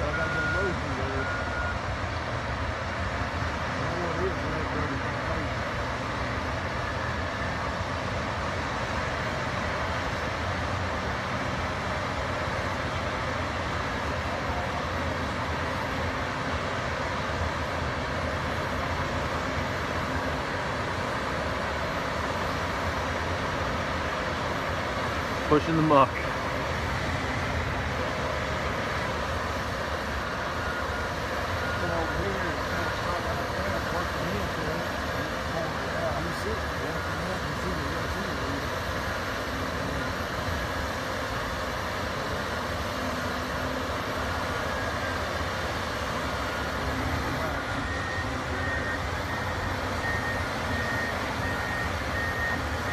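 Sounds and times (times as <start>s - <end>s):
bulldozer diesel engines under load: 0.0s - 52.9s.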